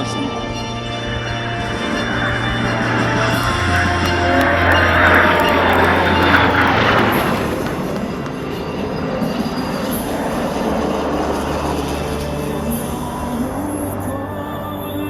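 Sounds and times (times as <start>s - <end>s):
faint music: 0.0s - 15.0s
jet roar passing over: 0.0s - 15.0s.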